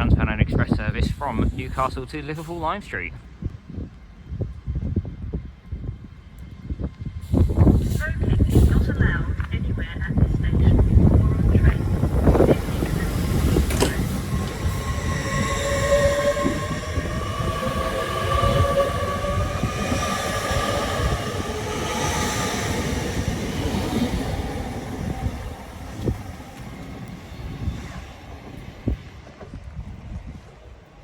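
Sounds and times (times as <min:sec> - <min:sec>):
train accelerating with whine: 0:00.9 - 0:30.4.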